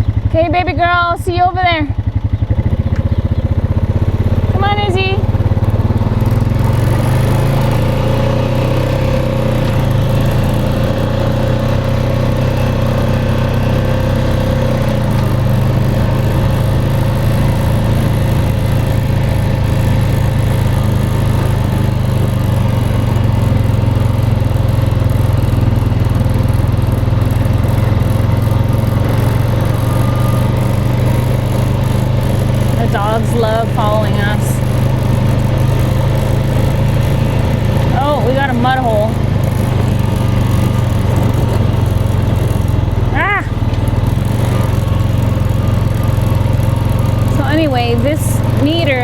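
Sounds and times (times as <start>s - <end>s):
off-road vehicle engine running: 0.0s - 49.0s.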